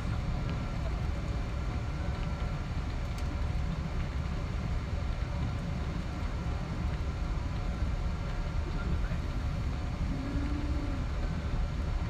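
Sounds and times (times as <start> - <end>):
aircraft cabin low rumble: 0.0 - 12.0
faint steady whine: 0.0 - 12.0.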